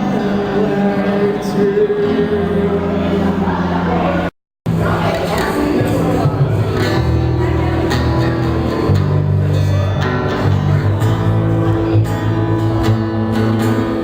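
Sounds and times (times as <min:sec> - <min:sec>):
strummed acoustic guitar: 0:00.0 - 0:14.0
sustained bass notes: 0:00.0 - 0:14.0.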